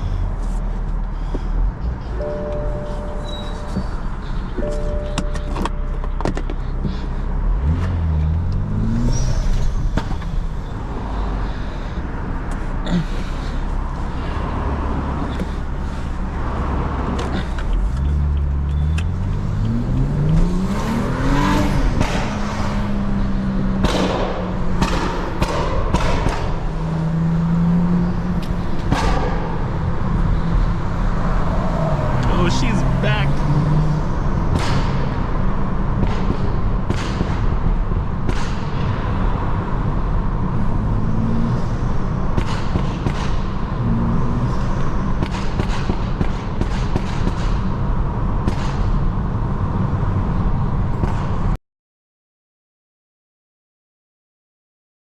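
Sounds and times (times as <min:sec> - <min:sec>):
car engine accelerating: 0:00.0 - 0:12.9, 0:13.6 - 0:46.2.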